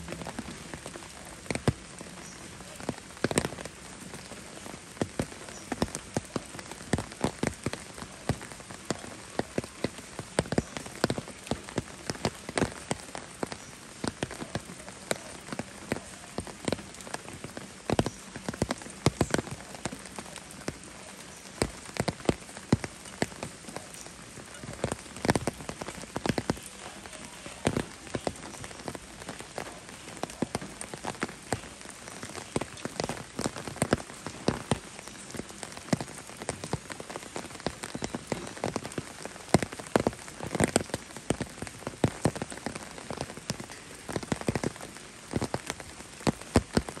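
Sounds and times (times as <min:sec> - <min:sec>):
steady rain patter: 0:00.0 - 0:47.0.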